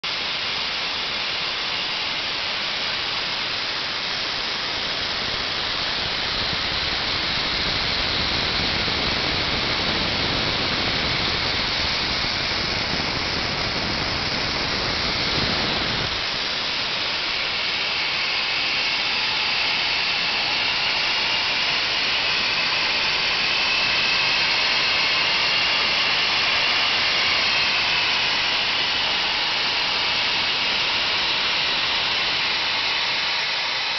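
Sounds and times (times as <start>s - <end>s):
high turbine whine: 0.0s - 33.9s
gas turbine jet-like rush: 0.1s - 33.9s.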